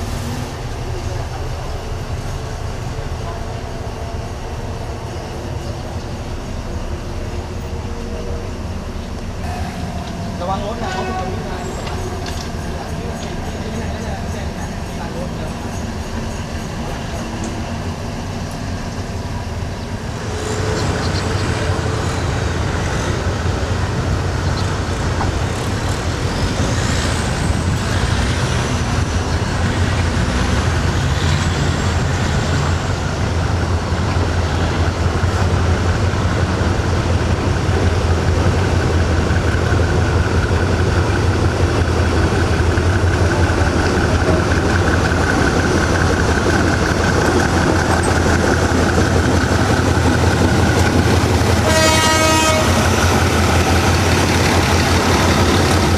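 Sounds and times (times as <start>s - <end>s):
diesel locomotive engine humming: 0.0s - 55.9s.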